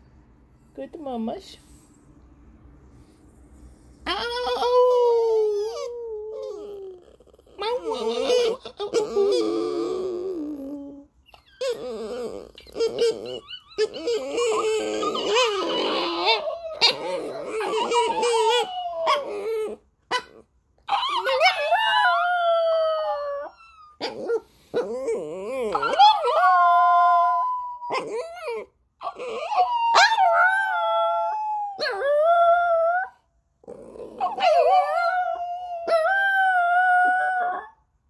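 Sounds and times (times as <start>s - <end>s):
small dog howling: 4.1s - 37.8s.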